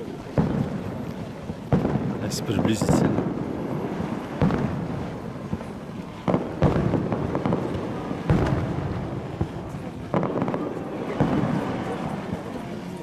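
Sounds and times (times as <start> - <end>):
firework shells bursting with bangs: 0.0 - 12.8.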